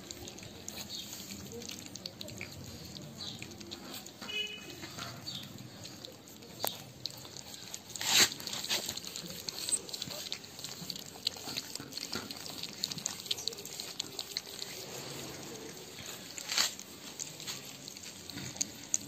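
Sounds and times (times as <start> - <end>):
puppies lapping and chewing: 0.0 - 19.0.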